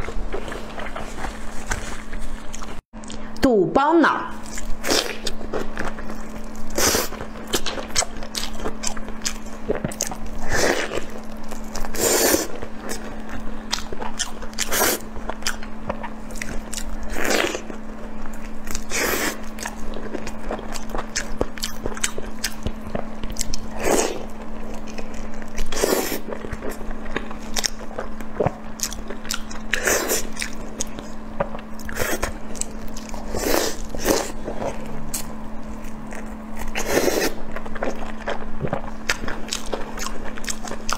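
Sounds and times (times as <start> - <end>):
steady low hum: 0.0 - 40.9
wet chewing and smacking: 4.5 - 40.9.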